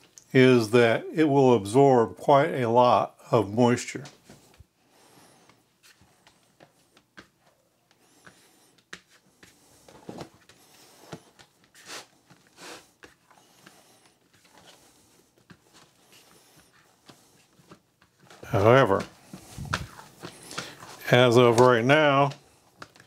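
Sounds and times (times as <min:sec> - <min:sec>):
hands kneading sticky dough: 0:04.2 - 0:23.0.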